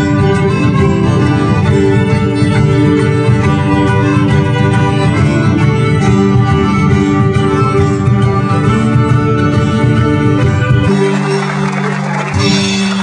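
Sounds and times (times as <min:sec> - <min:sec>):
folk band playing dance tune: 0:00.0 - 0:13.0.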